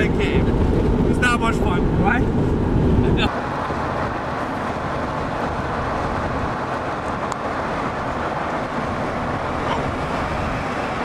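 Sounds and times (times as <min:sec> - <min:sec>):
truck road and wind noise: 0:00.0 - 0:11.0.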